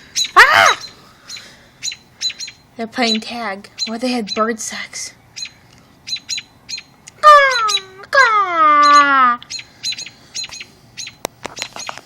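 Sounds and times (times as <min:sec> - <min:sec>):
long downward-sliding bird calls: 0:00.0 - 0:03.2, 0:05.1 - 0:11.9
birds chirping: 0:00.0 - 0:12.0.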